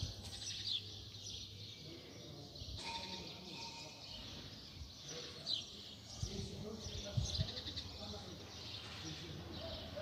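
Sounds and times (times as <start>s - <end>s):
faint outdoor background noise: 0.0s - 10.0s
small birds chirping: 0.0s - 10.0s.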